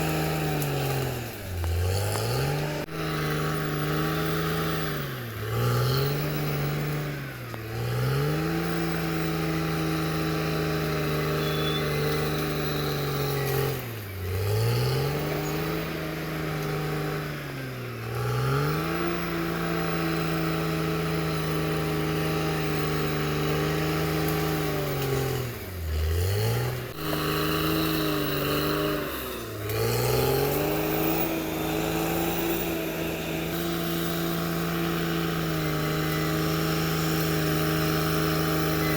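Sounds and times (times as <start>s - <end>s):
bulldozer diesel engine revving: 0.0s - 38.9s.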